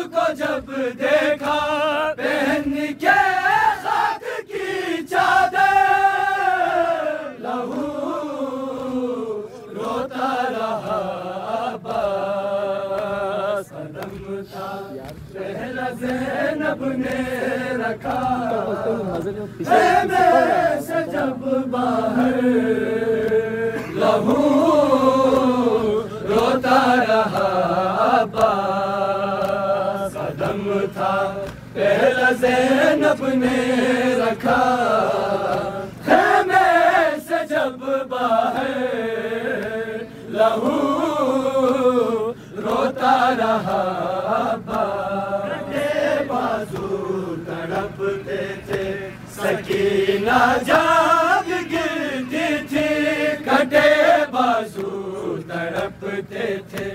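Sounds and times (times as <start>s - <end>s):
voices chanting a lament: 0.0s - 56.9s.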